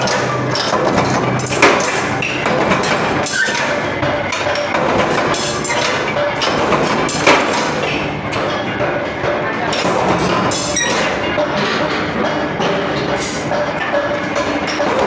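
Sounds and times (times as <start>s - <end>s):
workshop din: 0.0s - 15.0s.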